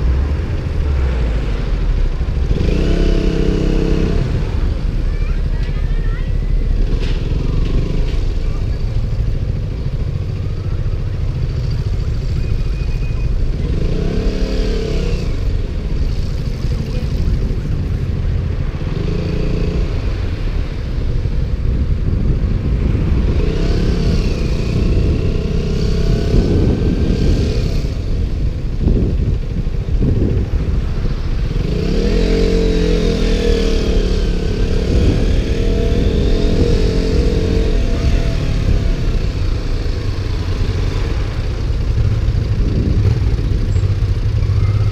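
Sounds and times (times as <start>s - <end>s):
motorcycle engine revving: 0.0s - 5.6s, 6.5s - 44.9s
low wind rumble: 0.0s - 44.9s.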